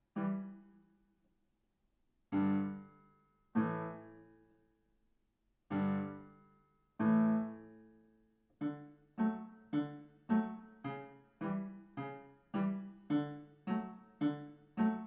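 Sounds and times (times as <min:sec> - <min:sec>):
slow piano notes: 0:00.0 - 0:00.9, 0:02.3 - 0:04.6, 0:05.7 - 0:15.0.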